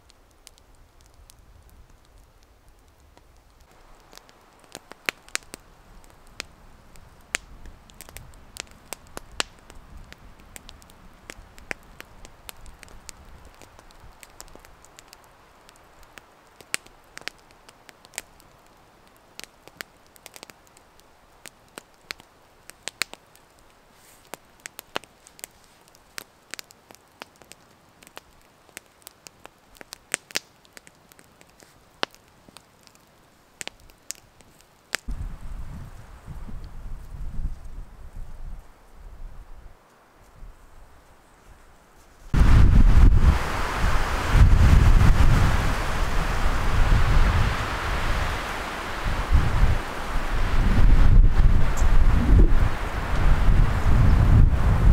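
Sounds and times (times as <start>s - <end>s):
campfire crackling and popping: 0.0s - 41.2s, 42.2s - 54.9s.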